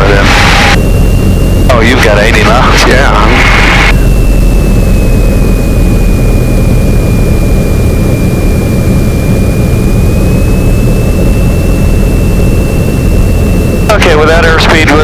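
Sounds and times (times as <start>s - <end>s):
aircraft engine and propeller droning: 0.0s - 15.0s
thin high whine: 0.0s - 15.0s.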